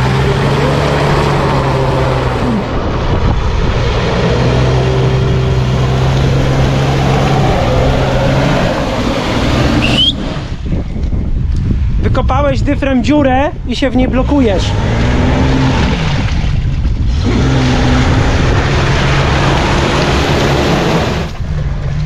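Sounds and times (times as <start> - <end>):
car engine revving: 0.0 - 10.6, 14.5 - 22.0.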